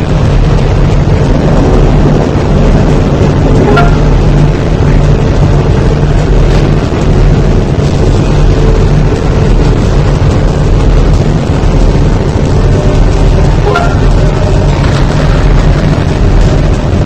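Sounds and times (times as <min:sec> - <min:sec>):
loud rumbling roar: 0:00.0 - 0:17.0
steady low hum: 0:00.0 - 0:17.0.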